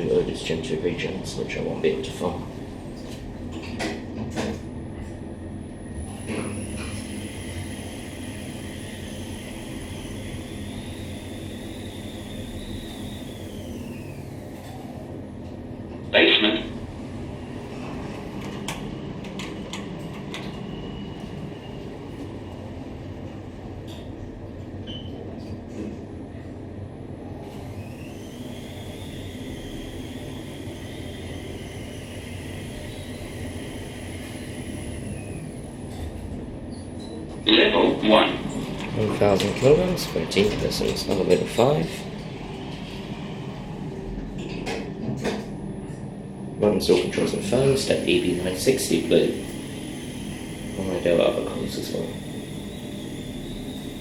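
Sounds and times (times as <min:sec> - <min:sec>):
elevator ride rumble: 0:00.0 - 0:54.0.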